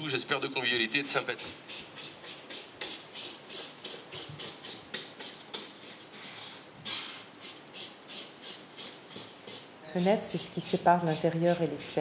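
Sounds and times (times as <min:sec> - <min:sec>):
paintbrush scrubbing a surface: 0:00.8 - 0:12.0.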